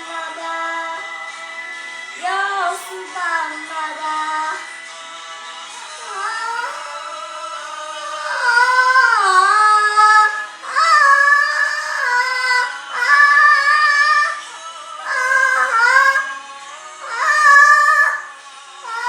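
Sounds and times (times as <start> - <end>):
child singing wordless notes: 0.0 - 1.4, 2.2 - 4.9, 5.8 - 19.0.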